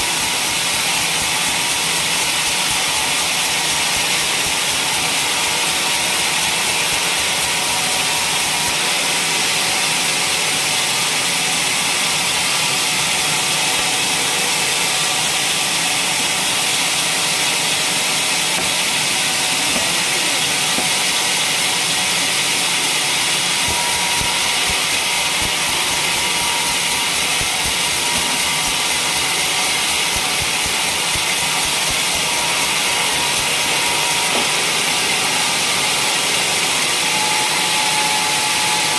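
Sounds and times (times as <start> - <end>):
saw blade whining through wood: 0.0 - 38.9.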